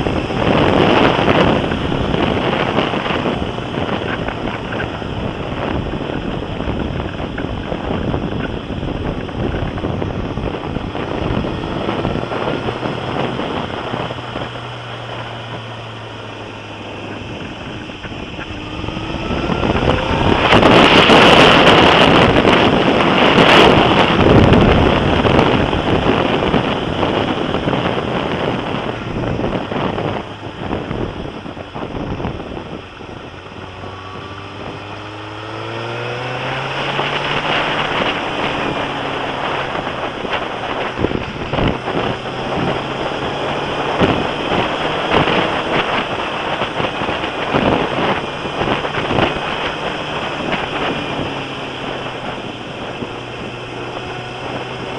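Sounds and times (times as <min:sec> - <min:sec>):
motorcycle engine accelerating: 0:00.0 - 0:54.9
wind buffeting microphone: 0:00.0 - 0:54.9.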